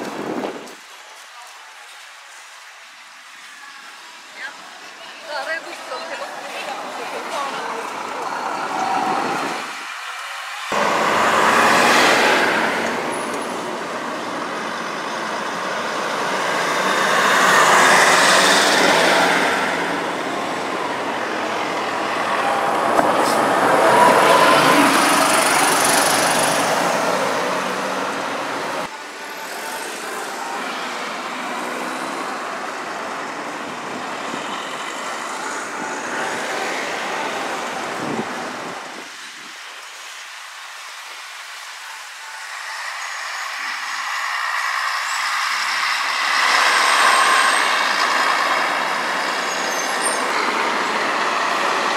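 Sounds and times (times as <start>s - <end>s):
buses and traffic driving past: 1.8s - 51.9s.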